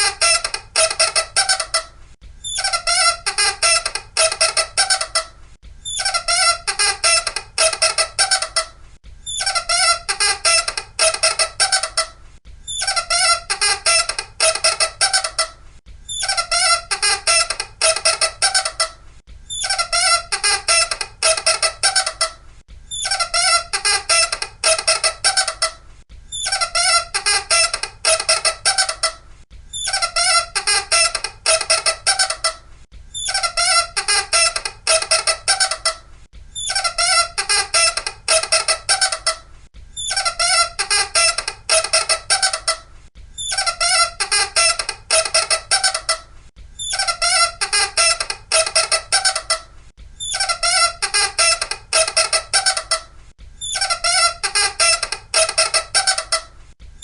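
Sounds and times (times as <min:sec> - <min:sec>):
high-pitched squeaking: 0:00.0 - 0:56.5.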